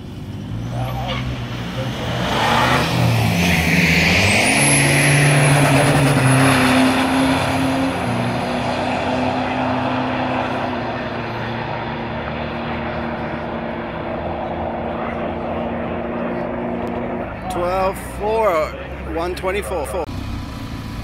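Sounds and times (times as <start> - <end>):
drag car engine accelerating: 0.0 - 21.0.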